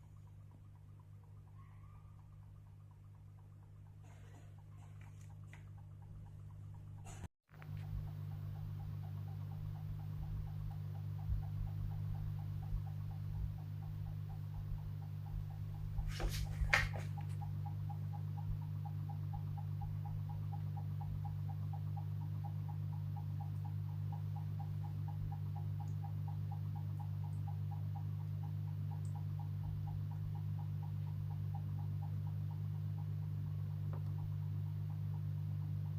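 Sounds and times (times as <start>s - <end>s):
air conditioner humming: 0.0s - 35.9s.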